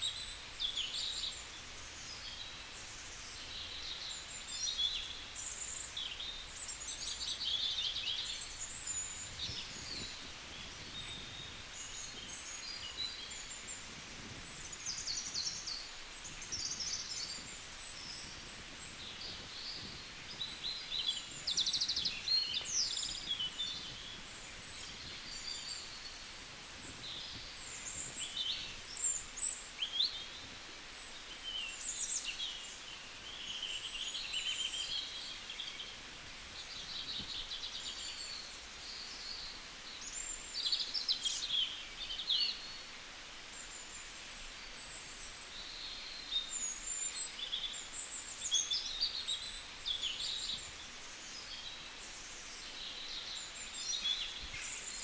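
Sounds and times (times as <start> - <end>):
faint outdoor hiss: 0.0 - 55.0
small birds chirping: 0.0 - 55.0.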